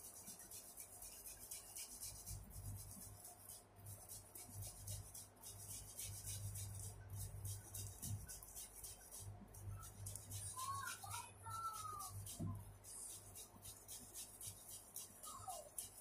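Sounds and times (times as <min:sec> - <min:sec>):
potato scraping on metal grater: 0:00.0 - 0:16.0.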